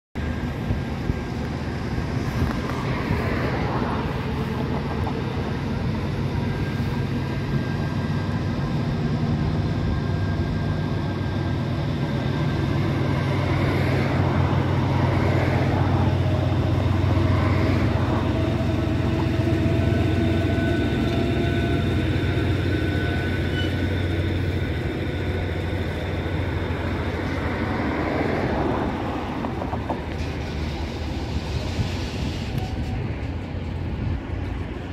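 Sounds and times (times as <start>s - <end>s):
locomotive low hum: 0.2s - 34.9s.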